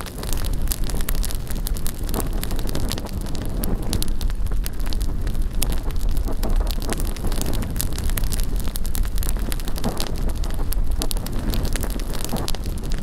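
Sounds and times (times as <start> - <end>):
bonfire crackling and popping: 0.0 - 13.0
wind buffeting microphone: 0.0 - 13.0.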